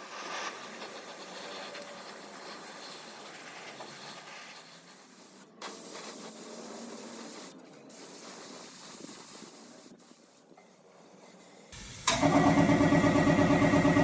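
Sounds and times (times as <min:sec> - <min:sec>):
spray paint hissing: 0:00.0 - 0:10.4, 0:11.5 - 0:14.0.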